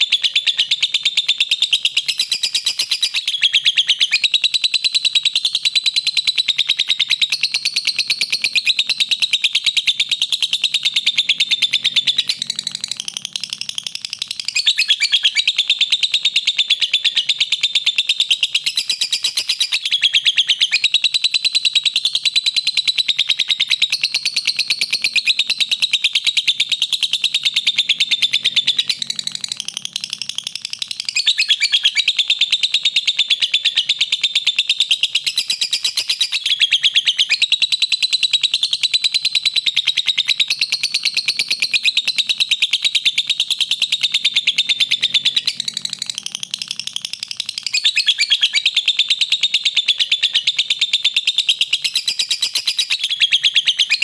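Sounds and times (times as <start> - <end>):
lovebird chattering: 0.0 - 54.0.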